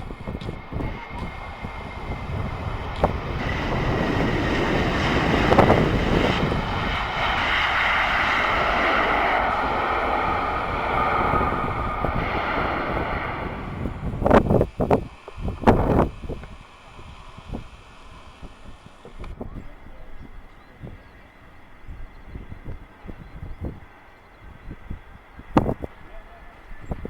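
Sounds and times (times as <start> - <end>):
jet engines passing close: 0.0 - 27.0.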